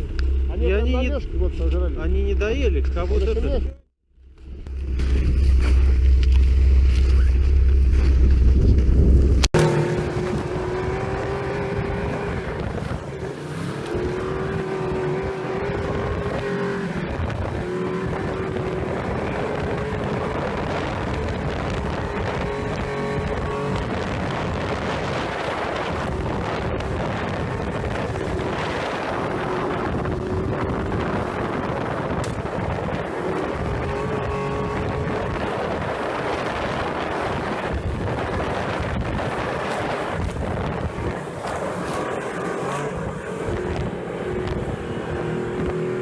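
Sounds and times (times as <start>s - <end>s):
snowmobile engine running: 0.0s - 46.0s
wind noise: 4.4s - 46.0s.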